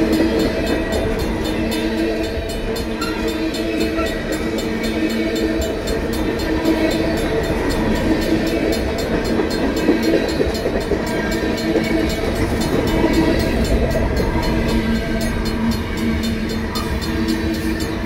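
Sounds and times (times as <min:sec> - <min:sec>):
crossing bells ringing: 0:00.0 - 0:18.0
train wheels rumbling on rail: 0:00.0 - 0:18.0.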